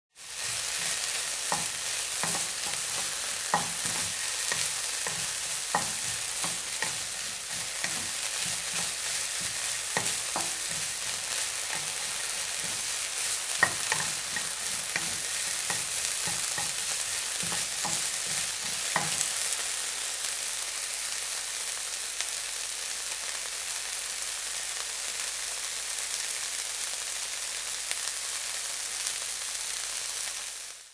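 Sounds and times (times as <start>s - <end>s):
food sizzling: 0.1s - 30.9s.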